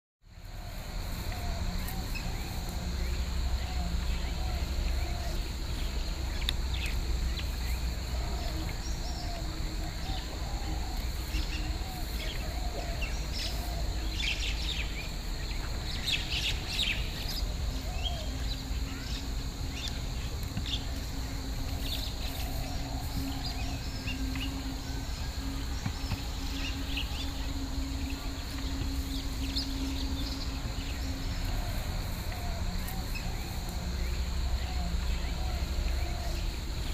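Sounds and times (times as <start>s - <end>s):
low hum: 0.3s - 36.9s.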